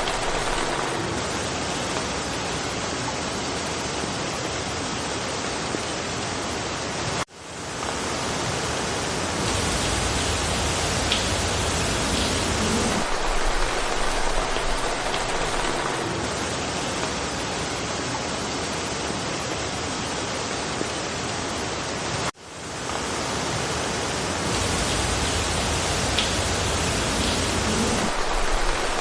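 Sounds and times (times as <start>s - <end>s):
rain falling in a forest: 0.0s - 29.0s.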